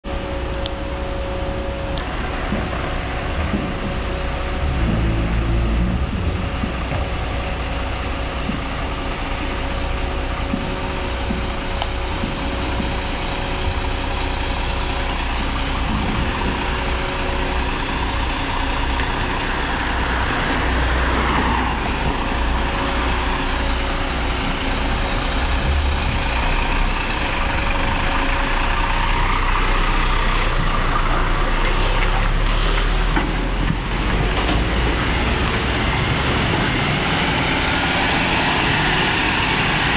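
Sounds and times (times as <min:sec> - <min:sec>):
diesel truck engines rumbling: 0:00.0 - 0:39.9.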